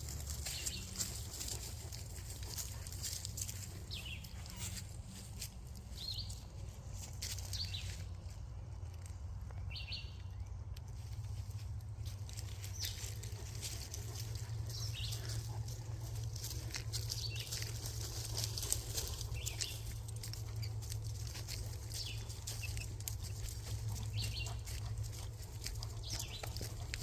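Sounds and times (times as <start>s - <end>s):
footsteps on muddy trail: 0.0s - 9.6s, 11.0s - 27.0s
low rumble of wind: 0.0s - 27.0s.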